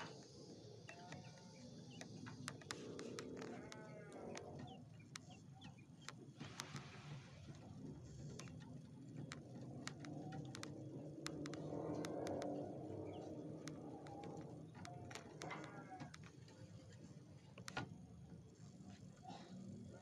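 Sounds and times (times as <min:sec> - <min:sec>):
faint clicks and taps: 0:00.0 - 0:19.2.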